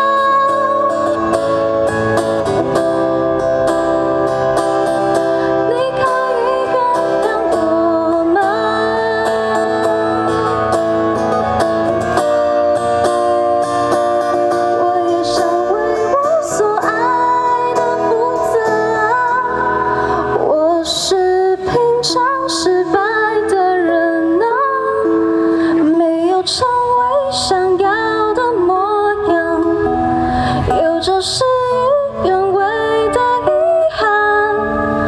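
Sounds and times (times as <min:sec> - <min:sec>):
live band slow song: 0:00.0 - 0:35.0.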